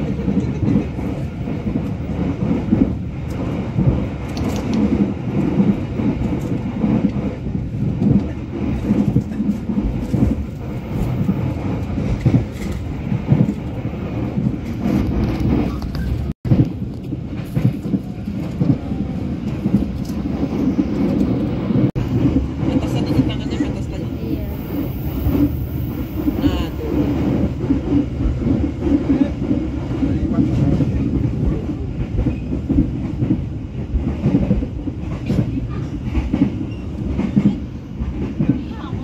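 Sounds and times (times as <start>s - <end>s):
train low rumble: 0.0s - 39.0s
train wheels knocking: 0.0s - 39.0s.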